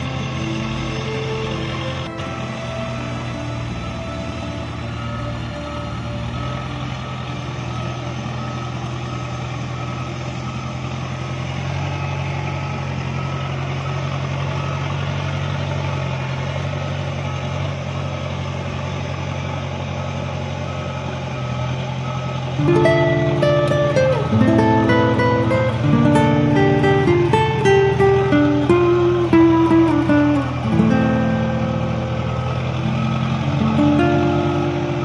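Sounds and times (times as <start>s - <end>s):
heavy vehicle engine running: 0.0s - 35.0s
reversing alarm beeping: 0.0s - 35.0s.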